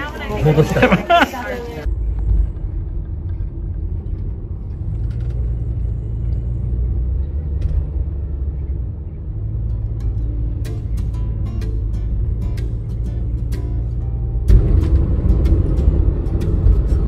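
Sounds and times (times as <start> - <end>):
engine and road noise inside van: 0.0 - 17.0.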